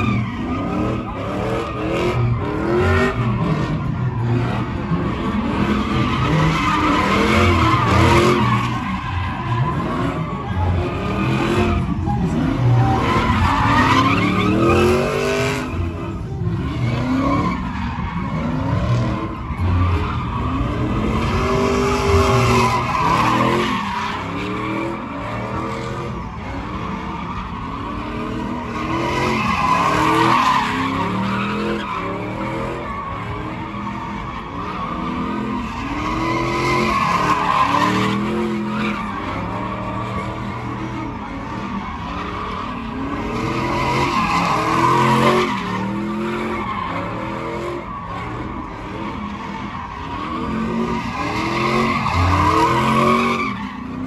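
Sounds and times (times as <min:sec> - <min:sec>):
tires squealing on pavement: 0:00.0 - 0:54.0.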